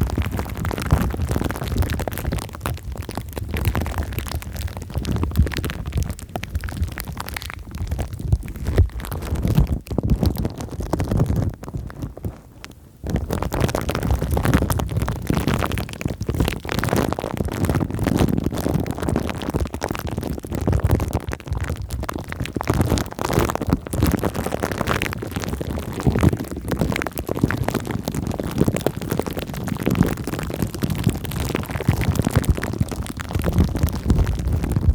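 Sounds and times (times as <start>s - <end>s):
plastic film and foam crinkling: 0.0s - 34.9s.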